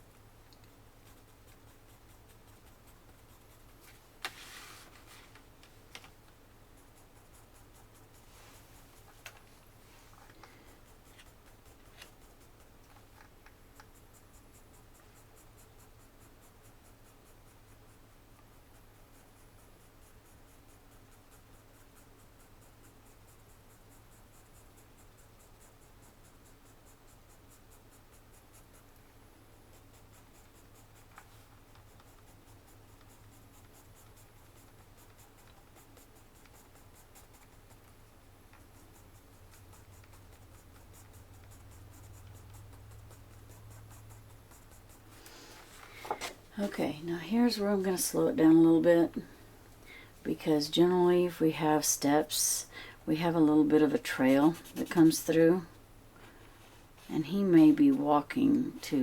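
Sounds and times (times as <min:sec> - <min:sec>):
pencil scratching on paper: 0:00.8 - 0:05.5, 0:06.3 - 0:49.4, 0:50.3 - 0:59.0.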